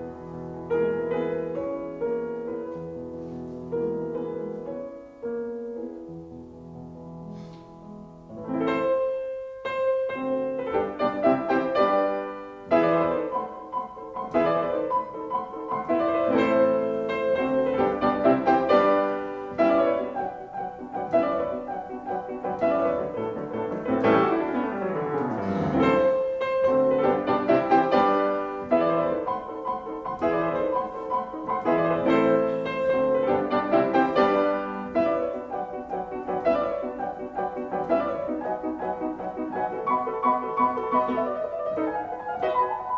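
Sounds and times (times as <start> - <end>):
calm piano piece: 0.0 - 42.9.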